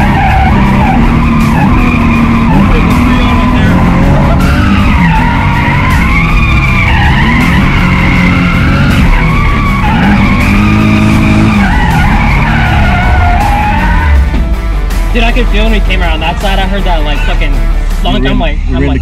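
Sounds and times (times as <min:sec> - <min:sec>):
car engine revving: 0:00.0 - 0:19.0
tires squealing: 0:00.0 - 0:19.0.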